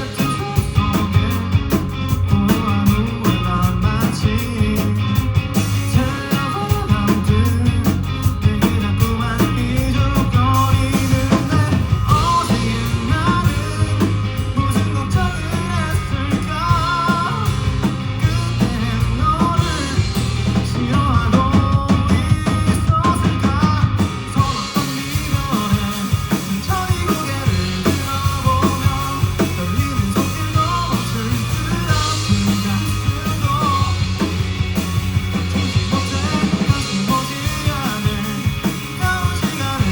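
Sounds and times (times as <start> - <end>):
person singing: 0.0 - 34.4, 35.6 - 39.9
live rock band playing: 0.0 - 39.9.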